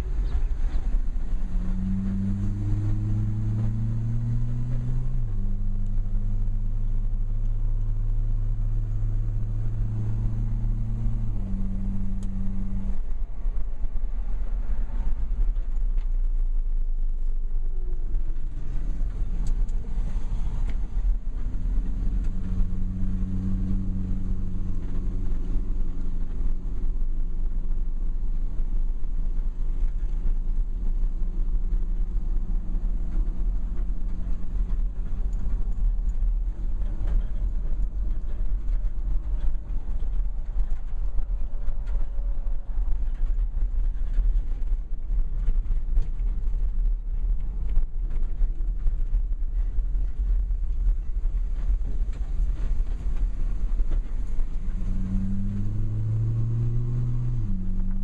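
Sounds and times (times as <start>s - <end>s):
car engine drone: 0.0s - 58.0s
low road rumble: 0.0s - 58.0s.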